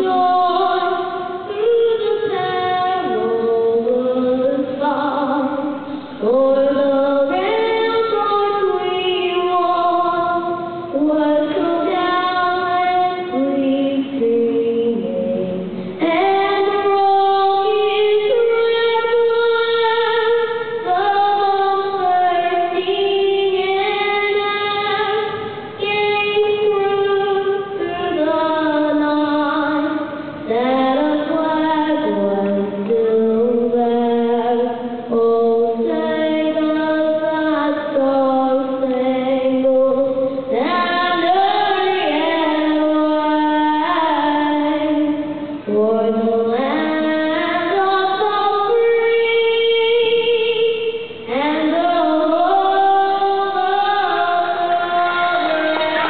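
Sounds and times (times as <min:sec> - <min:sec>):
girl singing into a microphone: 0:00.0 - 0:56.0.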